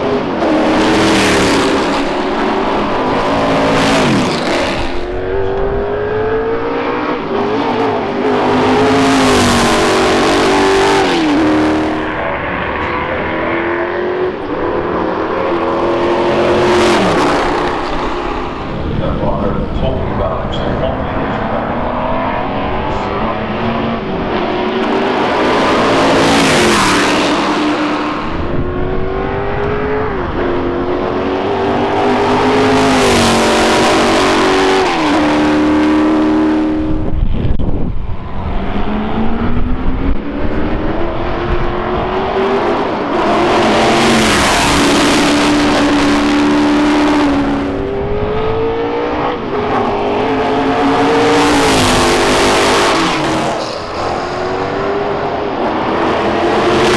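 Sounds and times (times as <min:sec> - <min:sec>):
racing cars accelerating past: 0:00.0 - 0:37.3, 0:38.0 - 0:56.9.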